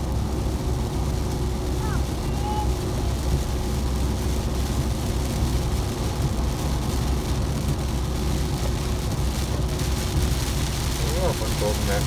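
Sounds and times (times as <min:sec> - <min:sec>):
car road and engine rumble: 0:00.0 - 0:12.0
rain and wet tyres hissing: 0:00.0 - 0:12.0.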